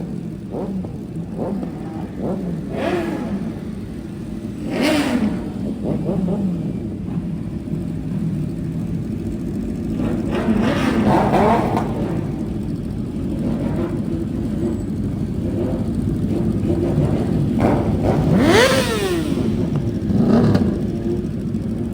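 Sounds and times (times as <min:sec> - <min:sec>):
motorcycle engines revving: 0:00.0 - 0:21.9.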